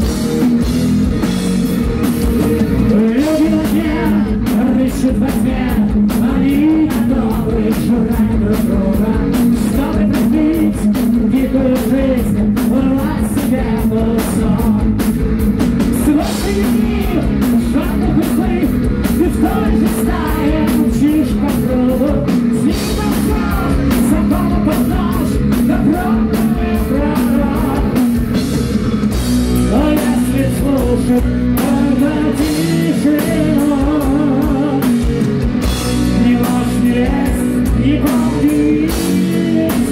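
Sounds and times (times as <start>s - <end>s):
heavy metal band playing: 0.0s - 39.9s
male vocal singing: 2.4s - 15.0s, 16.0s - 28.2s, 29.7s - 35.0s, 36.0s - 39.9s.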